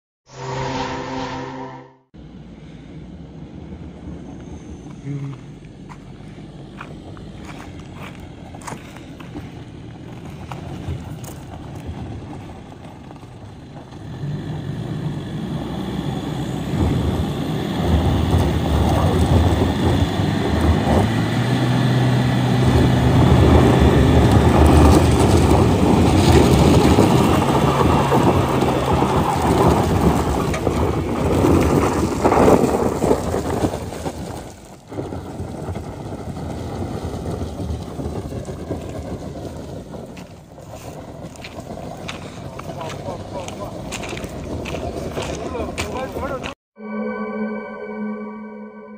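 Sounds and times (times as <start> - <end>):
vehicle engine working hard: 0.3 - 33.7, 34.3 - 46.6
tyres crunching on gravel: 4.3 - 46.6.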